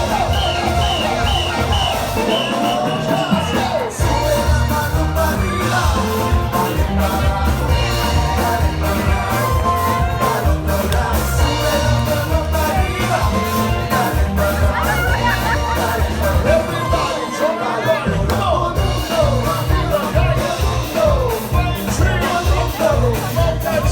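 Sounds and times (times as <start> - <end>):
loud music with heavy bass: 0.0 - 23.9
person singing: 0.0 - 23.9.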